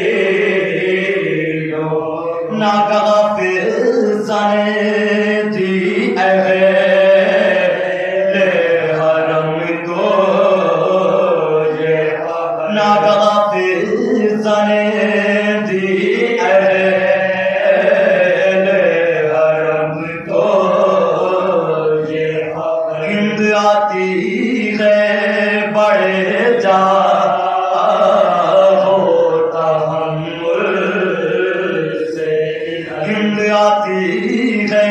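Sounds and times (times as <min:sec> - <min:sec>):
men chanting: 0:00.0 - 0:34.9.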